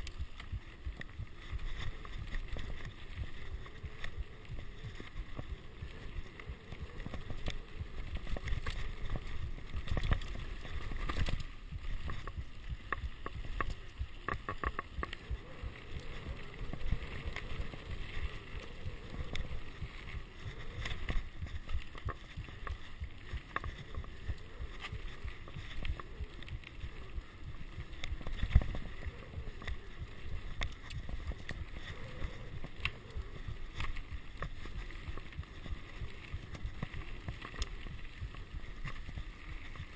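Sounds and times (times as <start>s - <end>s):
tyres and wind noise: 0.0s - 39.9s.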